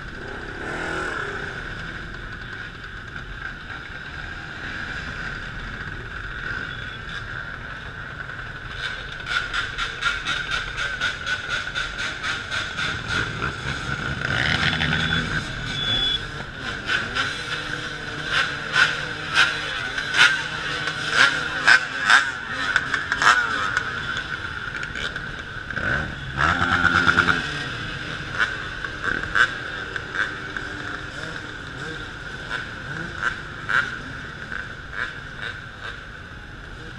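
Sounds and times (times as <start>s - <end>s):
dirt bike engines: 0.0s - 36.9s
dirt bike revving: 0.0s - 36.9s.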